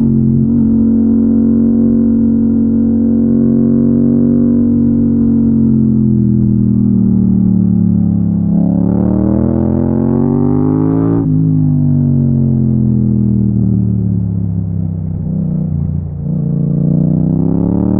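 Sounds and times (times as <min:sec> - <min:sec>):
motorcycle engine accelerating: 0:00.0 - 0:17.9.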